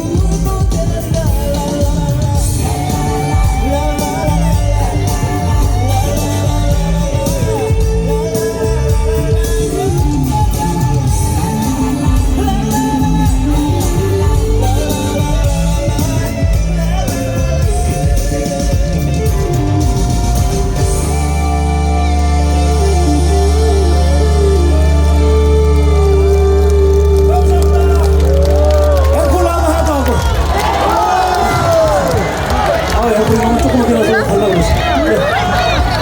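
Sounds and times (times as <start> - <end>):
live rock-pop band playing: 0.0 - 36.0.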